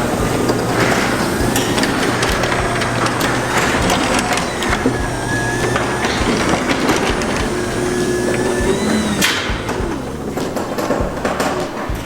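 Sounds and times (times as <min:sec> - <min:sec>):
clicks and rattles: 0:00.0 - 0:12.0
garage door opener motor hum: 0:00.0 - 0:12.0.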